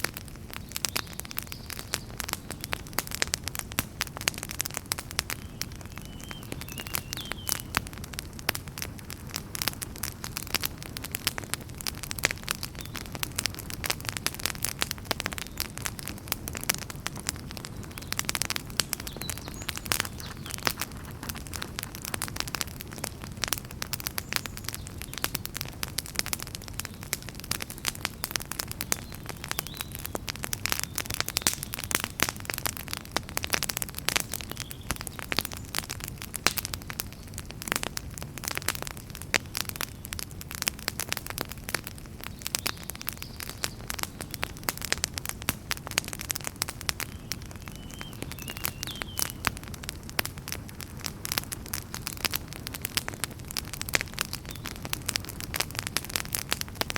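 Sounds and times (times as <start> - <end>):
low rumble of flames: 0.0 - 56.9
wood fire crackling and popping: 0.0 - 56.9.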